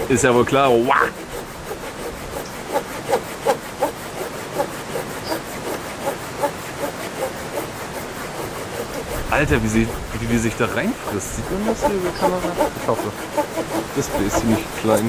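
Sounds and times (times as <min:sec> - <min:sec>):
hand saw cutting branch: 0:00.0 - 0:15.0.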